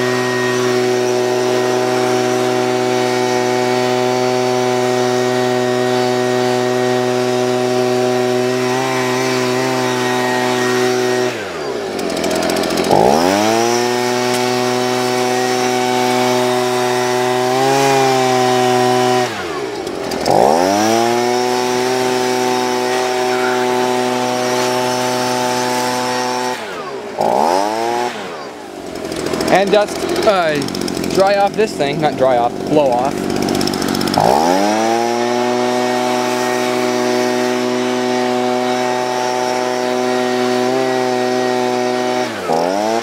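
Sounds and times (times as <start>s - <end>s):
leaf blower running: 0.0s - 43.0s.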